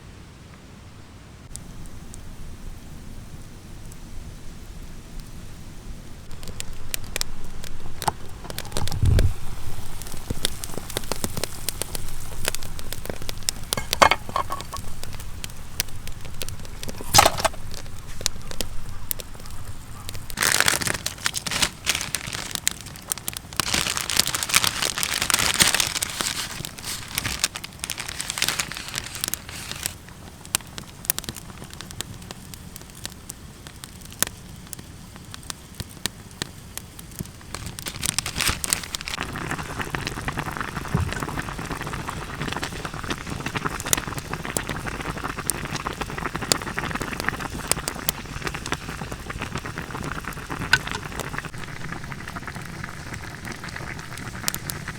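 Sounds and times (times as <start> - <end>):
campfire crackling and popping: 1.4 - 54.9.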